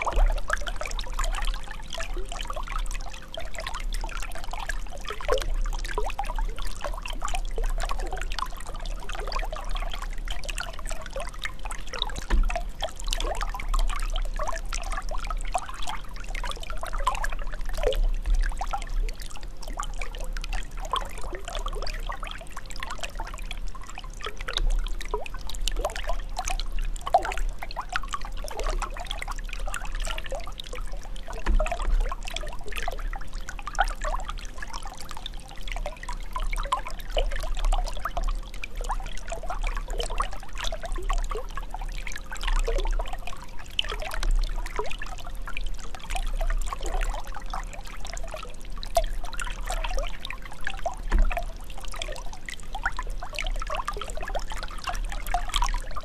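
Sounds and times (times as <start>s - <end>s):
water trickling and gurgling: 0.0s - 56.0s.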